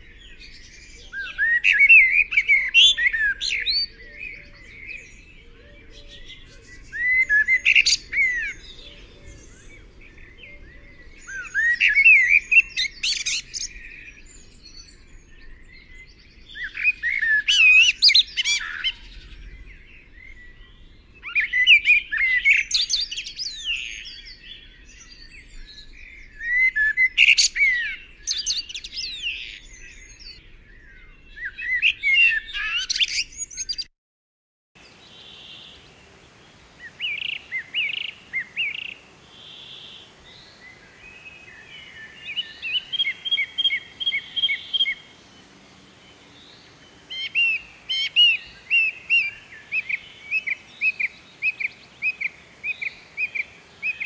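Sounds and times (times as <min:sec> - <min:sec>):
bird singing whistled notes: 0:00.0 - 0:33.9, 0:36.8 - 0:54.0.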